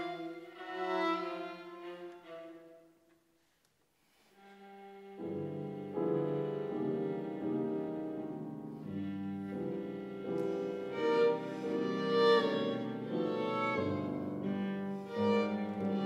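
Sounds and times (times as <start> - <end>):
classical string and piano trio: 0.0 - 3.0, 4.4 - 16.0.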